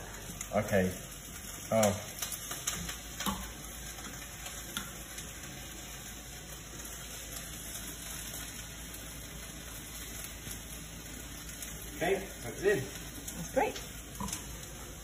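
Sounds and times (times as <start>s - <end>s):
kale sizzling in a hot pan: 0.0s - 15.0s.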